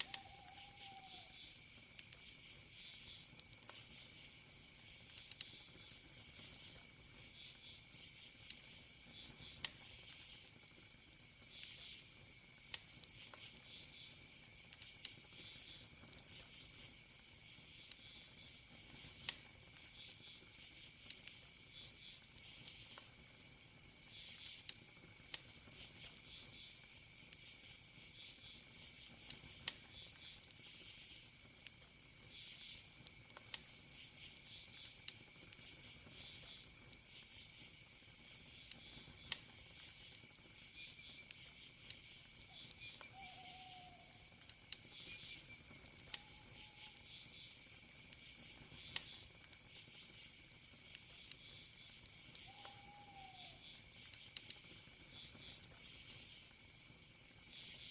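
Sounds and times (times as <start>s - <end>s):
campfire crackling and popping: 0.0s - 57.9s
crickets chirping: 0.0s - 57.9s.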